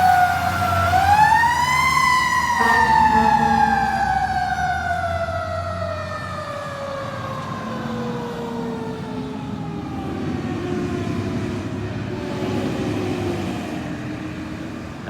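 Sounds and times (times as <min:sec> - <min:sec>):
fire engine siren winding down: 0:00.0 - 0:15.0
truck engine rumbling: 0:00.0 - 0:15.0.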